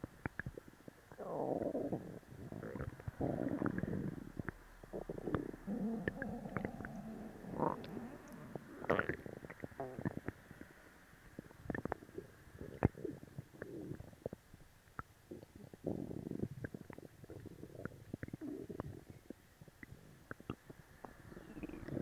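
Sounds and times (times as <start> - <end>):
stomach growling and gurgling: 0.0 - 22.0.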